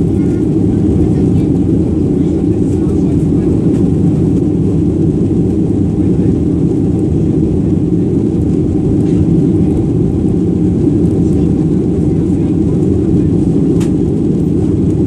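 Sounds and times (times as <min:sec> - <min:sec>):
jet airliner engines: 0:00.0 - 0:15.0.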